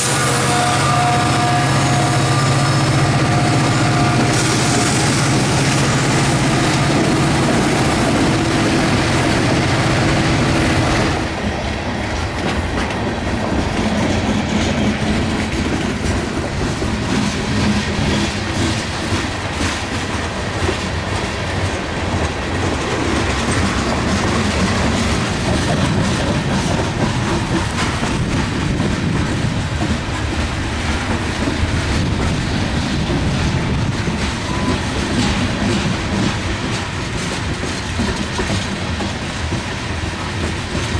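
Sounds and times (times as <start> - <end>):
diesel locomotive engine drone: 0.0 - 40.9
train cars rumbling: 0.0 - 40.9
wheels clickety-clack over rail: 0.0 - 40.9.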